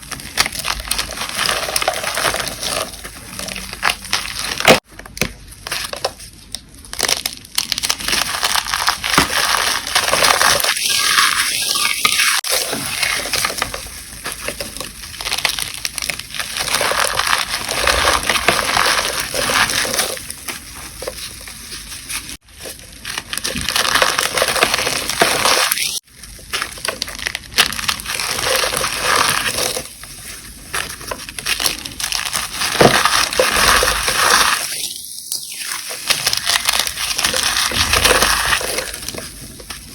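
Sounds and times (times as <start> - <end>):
chalk crunching and crackling: 0.0 - 4.9, 5.6 - 39.9.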